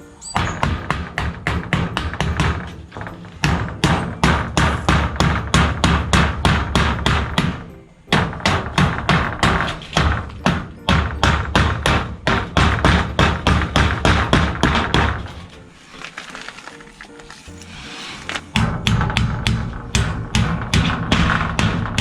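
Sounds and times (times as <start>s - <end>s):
background music: 0.0s - 22.0s
hammer on metal sheeting: 0.2s - 16.0s, 17.2s - 22.0s.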